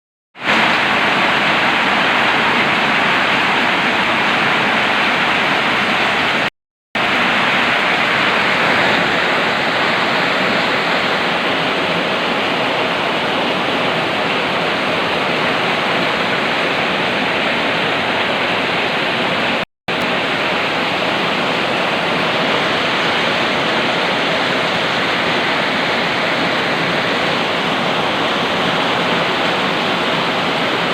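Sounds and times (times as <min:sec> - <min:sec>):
heavy rain pouring: 0:00.4 - 0:30.9.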